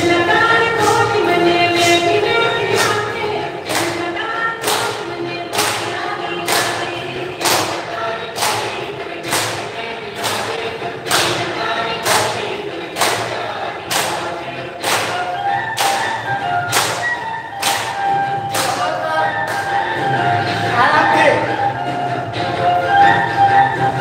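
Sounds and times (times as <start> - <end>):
exercise music with singing: 0.0 - 24.0
steady percussive beat: 0.0 - 24.0.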